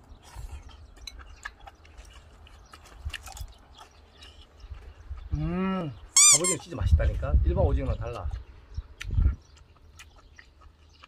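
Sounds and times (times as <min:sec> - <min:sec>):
man chewing with mouth smacks: 0:00.0 - 0:11.0.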